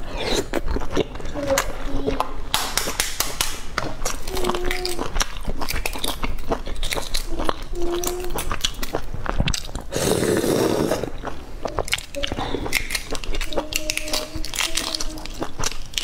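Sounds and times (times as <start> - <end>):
eggshell crackling: 0.0 - 16.0.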